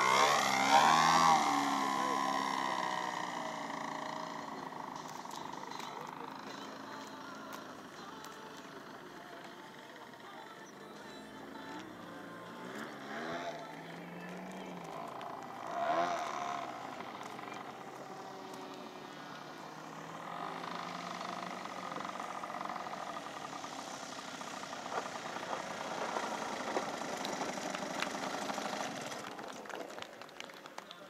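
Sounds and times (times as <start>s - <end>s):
model plane engine and propeller: 0.0s - 31.0s.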